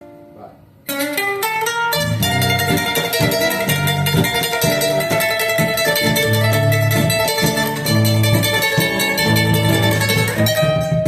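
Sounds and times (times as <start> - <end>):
plucked string instruments: 0.0 - 11.0
bass line: 1.9 - 11.0.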